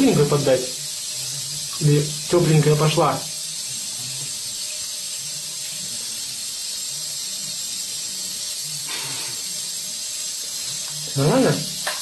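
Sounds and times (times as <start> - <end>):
tap water running into bath: 0.0 - 12.0.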